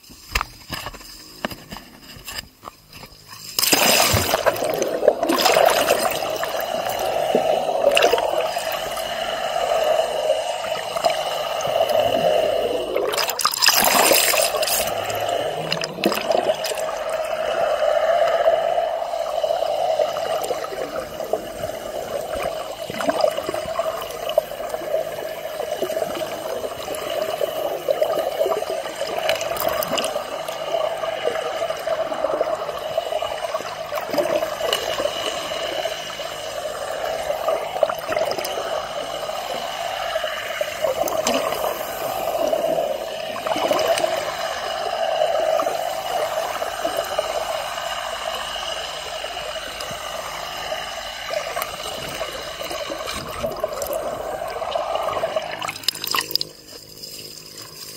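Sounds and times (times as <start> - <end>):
muffled underwater water wash: 3.2 - 57.9.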